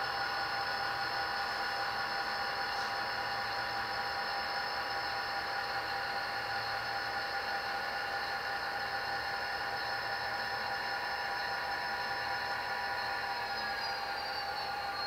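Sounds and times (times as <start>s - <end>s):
model locomotive motor whirring: 0.0s - 15.0s.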